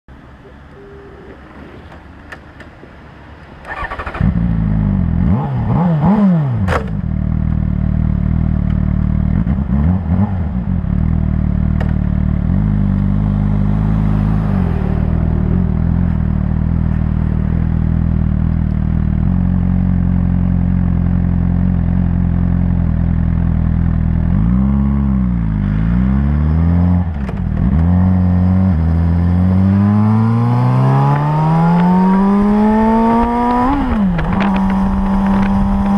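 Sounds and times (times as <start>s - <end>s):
motorcycle engine revving and idling: 3.6s - 35.9s.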